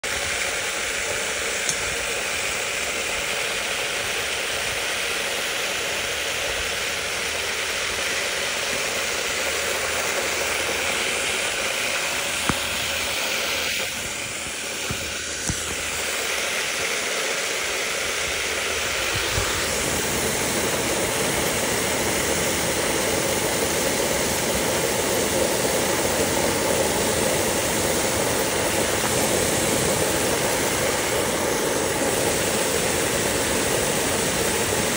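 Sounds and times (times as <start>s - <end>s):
hose spraying water onto mulch: 0.0s - 34.9s.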